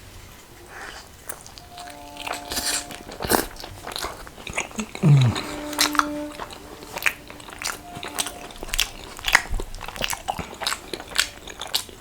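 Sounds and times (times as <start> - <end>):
person chewing food: 0.6 - 12.0.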